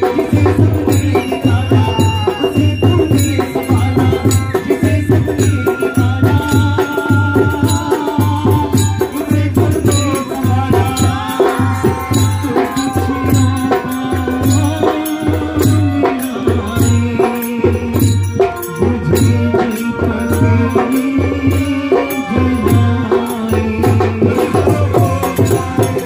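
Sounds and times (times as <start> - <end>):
man singing into microphone: 0.0 - 26.0
steady drum beat: 0.0 - 26.0.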